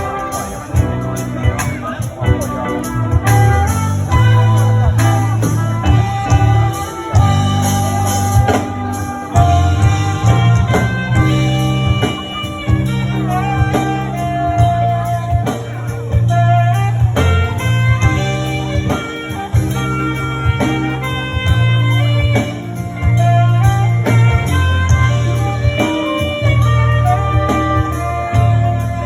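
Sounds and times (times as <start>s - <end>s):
electric guitar melody: 0.0s - 29.0s
heavy steady bass: 0.0s - 29.0s.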